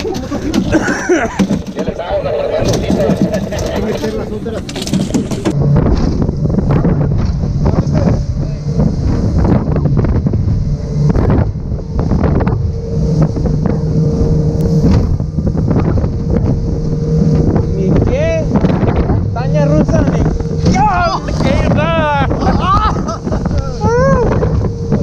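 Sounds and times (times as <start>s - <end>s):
boat engine running: 0.0s - 25.0s
wind buffeting microphone: 0.0s - 25.0s.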